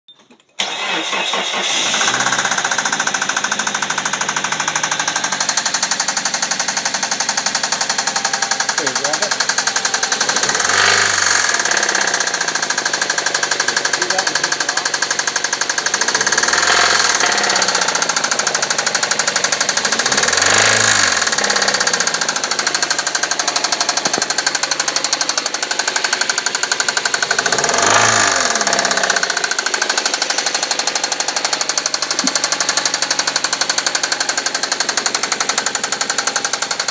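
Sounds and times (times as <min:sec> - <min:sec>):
car engine knocking and revving: 0:01.6 - 0:36.9.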